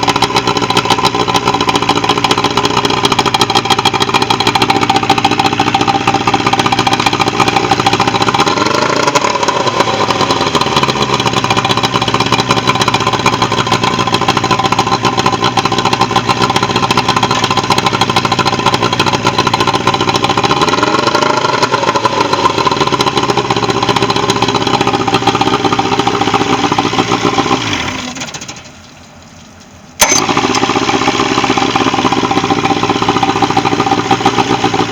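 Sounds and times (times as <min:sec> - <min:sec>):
outboard motor revving: 0:00.0 - 0:28.6, 0:30.0 - 0:34.9.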